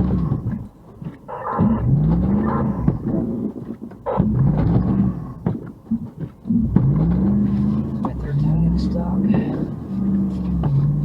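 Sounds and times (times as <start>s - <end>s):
car engine revving: 0.0s - 0.7s, 1.3s - 11.0s.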